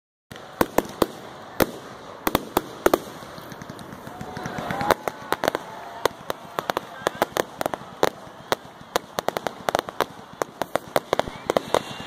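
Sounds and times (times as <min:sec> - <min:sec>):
crackling hiss of fountains: 0:00.3 - 0:12.0
fireworks bangs: 0:00.3 - 0:12.0.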